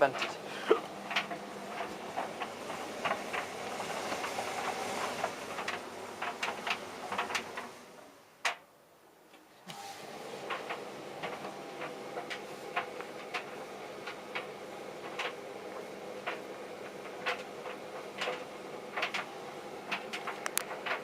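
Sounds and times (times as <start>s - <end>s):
tumble dryer humming: 0.0s - 8.2s, 9.7s - 21.0s.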